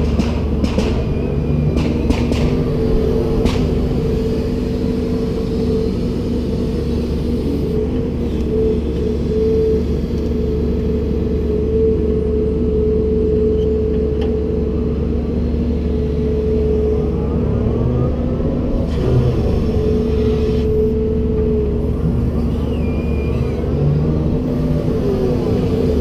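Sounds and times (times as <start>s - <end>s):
excavator engine rumbling: 0.0s - 26.0s.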